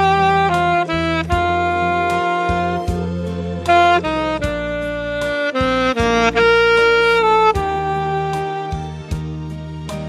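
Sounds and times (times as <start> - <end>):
saxophone long note: 0.0 - 9.3
backing track with bass: 0.0 - 10.0.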